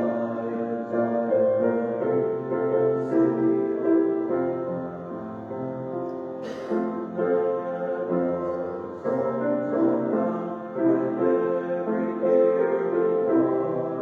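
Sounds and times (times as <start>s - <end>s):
piano playing slow chords: 0.0s - 14.0s.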